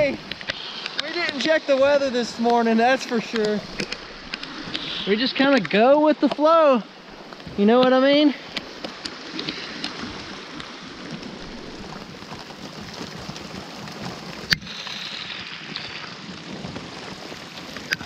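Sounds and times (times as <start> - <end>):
heavy rain on water: 0.0 - 18.0.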